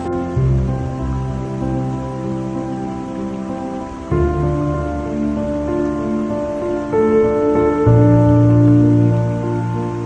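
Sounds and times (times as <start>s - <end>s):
calm music of sustained chords: 0.0s - 10.0s.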